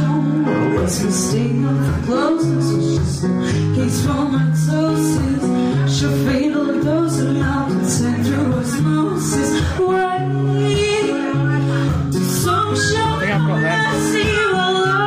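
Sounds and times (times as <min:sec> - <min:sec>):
acoustic guitar: 0:00.0 - 0:15.0
woman singing: 0:00.0 - 0:15.0.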